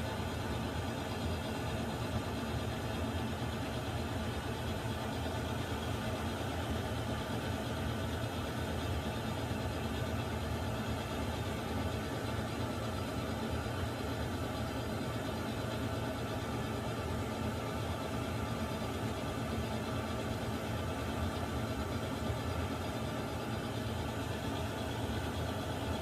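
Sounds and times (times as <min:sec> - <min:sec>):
water heater rumbling and hissing: 0:00.0 - 0:26.0.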